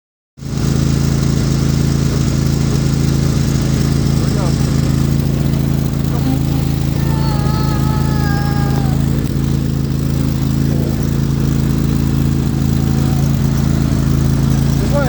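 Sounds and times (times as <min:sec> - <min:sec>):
lawn tractor engine running: 0:00.4 - 0:15.0.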